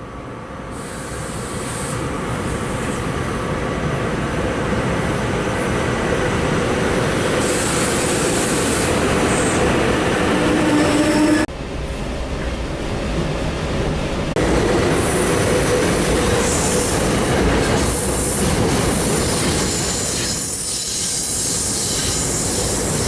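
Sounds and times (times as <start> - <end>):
electric train arriving: 0.0 - 23.0
train whine: 0.0 - 23.0.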